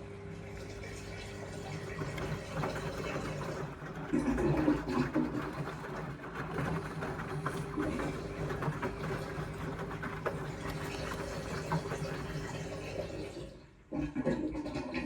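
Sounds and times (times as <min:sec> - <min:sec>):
washing machine hum: 0:00.0 - 0:15.0
water sloshing in washing machine: 0:00.0 - 0:15.0.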